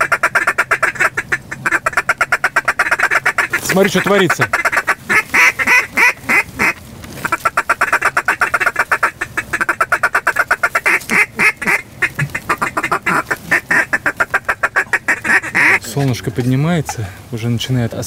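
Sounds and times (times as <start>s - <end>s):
duck call quacking: 0.0s - 15.8s.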